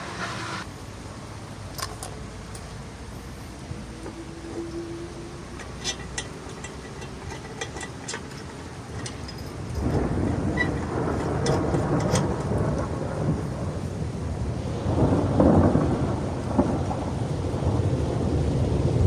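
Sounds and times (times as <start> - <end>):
steady rain: 0.0 - 19.0
thunder rumbling: 3.4 - 19.0.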